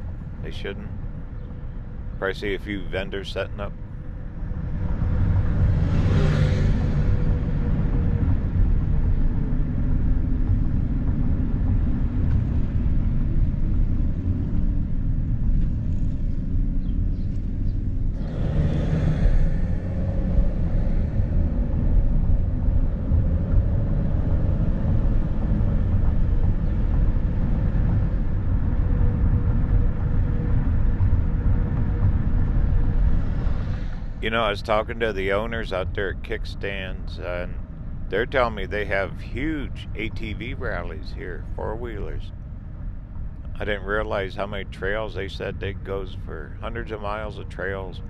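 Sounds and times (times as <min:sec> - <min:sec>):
faint steady whine: 0:00.0 - 0:05.8, 0:06.9 - 0:48.0
tyre and engine rumble: 0:00.0 - 0:48.0.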